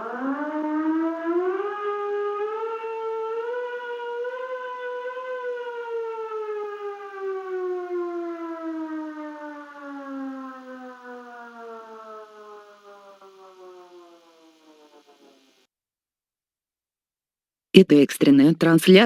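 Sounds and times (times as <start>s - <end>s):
siren winding down: 0.0s - 15.7s.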